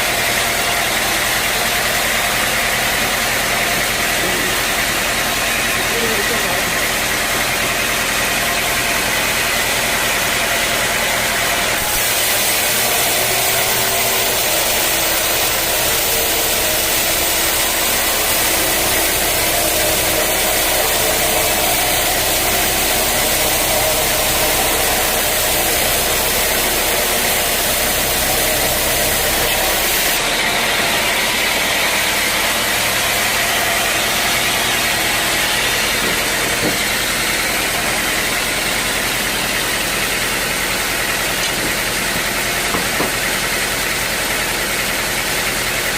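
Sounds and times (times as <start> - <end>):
sawmill sawing log: 0.0 - 45.9.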